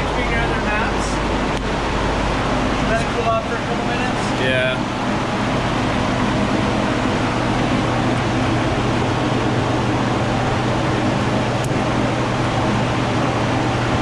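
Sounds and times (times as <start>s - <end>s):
machinery droning: 0.0s - 14.0s.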